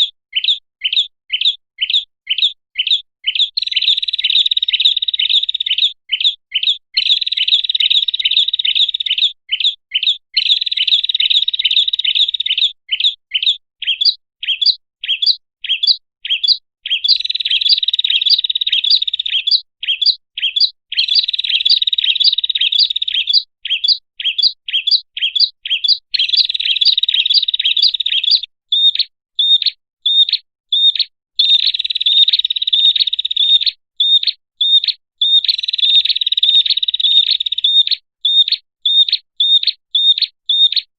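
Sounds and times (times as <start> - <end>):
bird trilling and chipping: 0.0 - 40.9.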